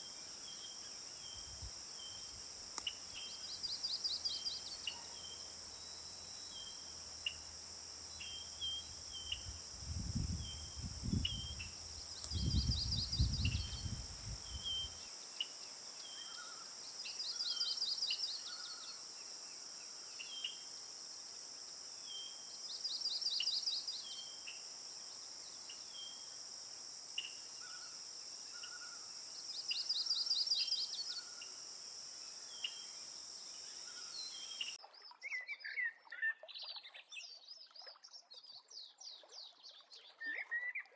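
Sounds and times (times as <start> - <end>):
insects droning: 0.0 - 34.8
short insect chirps: 0.0 - 35.8.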